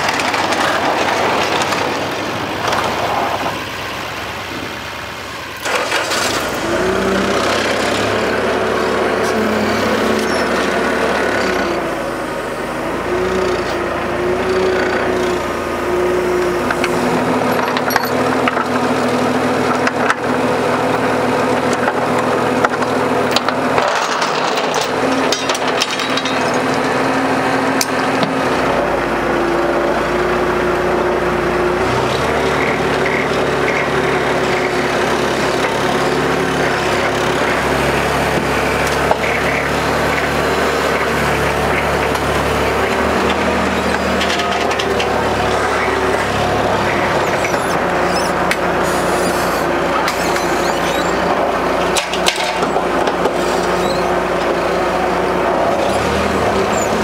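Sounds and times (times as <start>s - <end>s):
forklift engine running: 0.0s - 57.0s.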